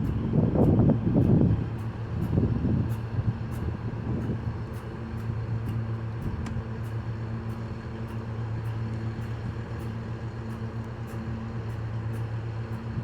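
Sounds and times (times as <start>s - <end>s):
train diesel engine idling: 0.1s - 13.0s.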